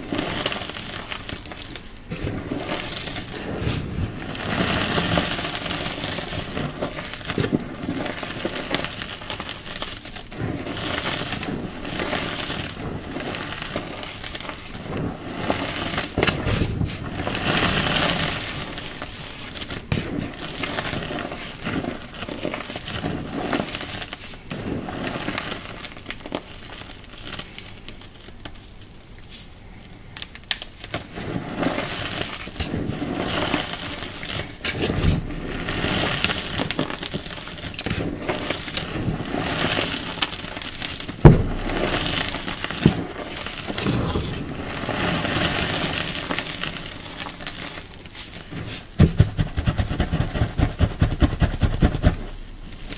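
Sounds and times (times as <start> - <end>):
hands crumbling chalky clumps: 0.0 - 52.9.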